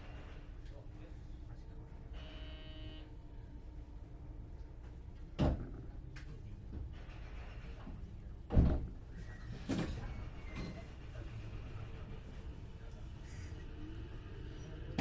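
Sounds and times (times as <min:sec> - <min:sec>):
low steady train hum: 0:00.0 - 0:15.0.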